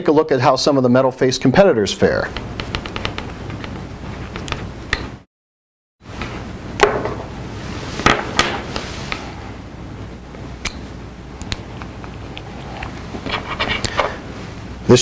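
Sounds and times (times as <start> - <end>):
steady low hum: 0.0 - 5.2, 6.0 - 15.0.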